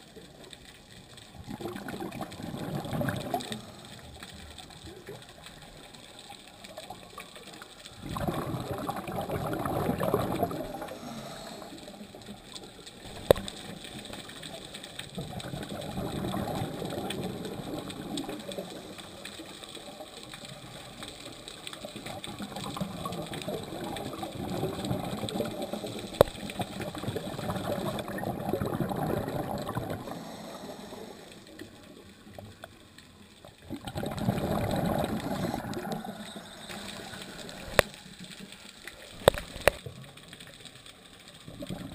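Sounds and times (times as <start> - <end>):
regulator bubbling underwater: 1.0 - 5.9, 6.7 - 32.6, 33.5 - 38.5, 41.4 - 41.9.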